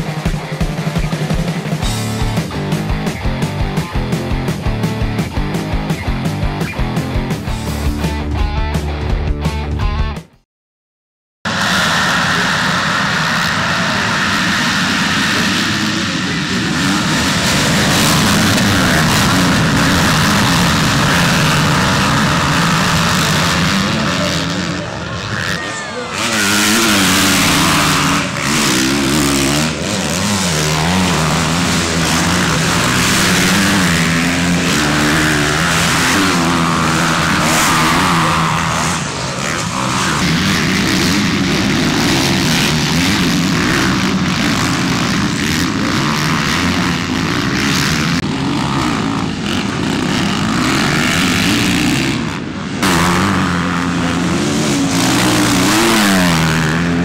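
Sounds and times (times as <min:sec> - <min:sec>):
motocross bikes revving: 0:00.0 - 0:08.4, 0:11.5 - 0:57.0.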